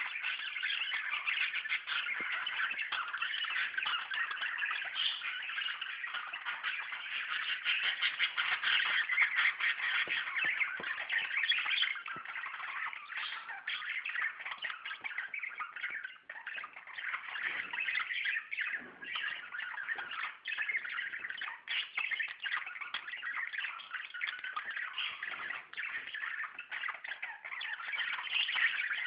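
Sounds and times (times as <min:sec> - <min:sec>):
budgerigars chattering and chirping: 0:00.0 - 0:29.0.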